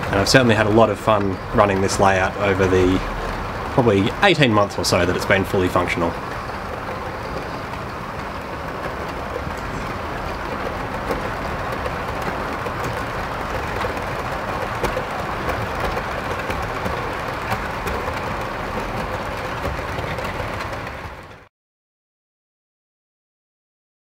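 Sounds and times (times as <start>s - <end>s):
model train wheels rumbling on rail: 0.0s - 21.5s.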